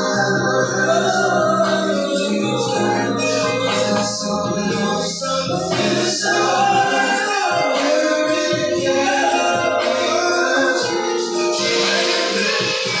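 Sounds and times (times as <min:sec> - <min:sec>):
choir-like backing voices: 0:00.0 - 0:13.0
person singing: 0:00.0 - 0:13.0
steady beat: 0:00.0 - 0:13.0.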